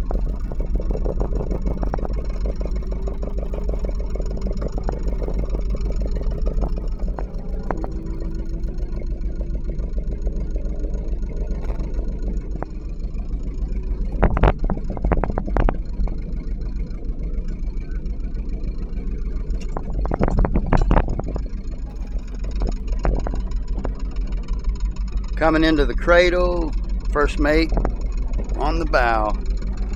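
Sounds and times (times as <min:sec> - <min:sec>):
boat engine low drone: 0:00.0 - 0:29.9.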